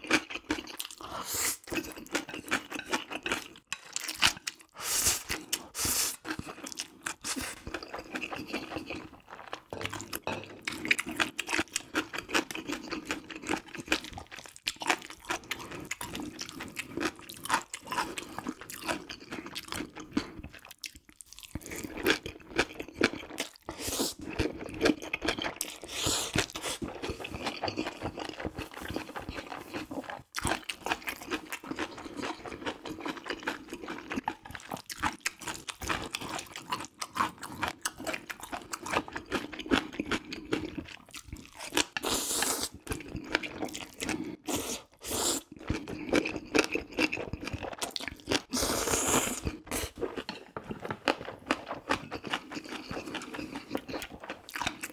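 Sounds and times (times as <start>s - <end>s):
close chewing with wet mouth smacks: 0.0s - 48.6s, 51.5s - 54.9s.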